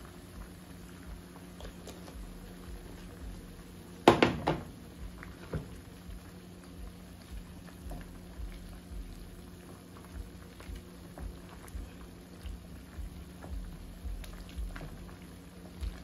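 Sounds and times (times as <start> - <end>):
pot boiling and bubbling: 0.0 - 16.0.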